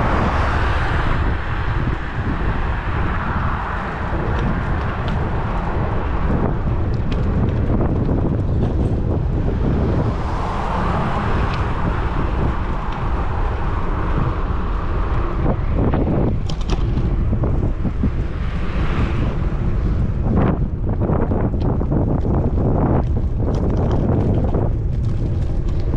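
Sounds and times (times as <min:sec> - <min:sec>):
road traffic passing: 0:00.0 - 0:25.9
wind buffeting microphone: 0:00.0 - 0:25.9.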